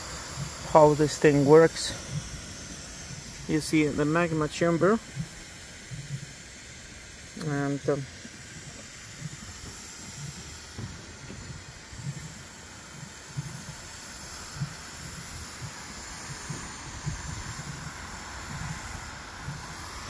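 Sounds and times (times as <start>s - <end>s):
steam hissing from vents: 0.0s - 20.0s.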